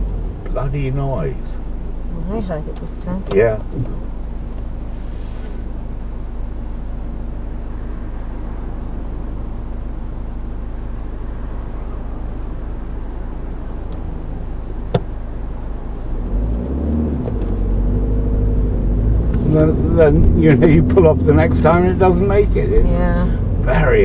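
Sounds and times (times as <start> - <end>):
diesel car engine rumble: 0.0 - 24.0.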